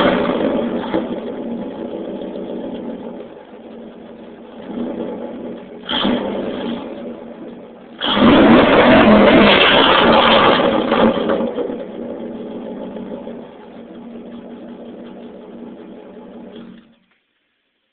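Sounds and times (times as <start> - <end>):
pickup truck engine revving and idling: 0.0 - 17.0.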